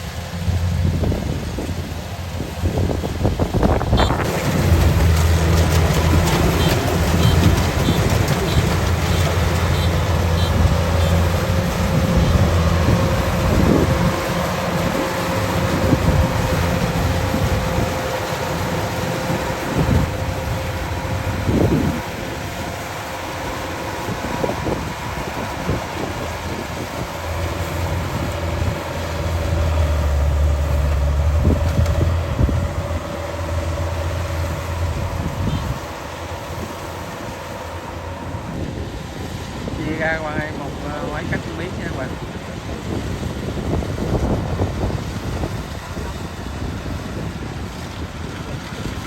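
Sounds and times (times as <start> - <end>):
diesel engine droning: 0.0 - 49.0.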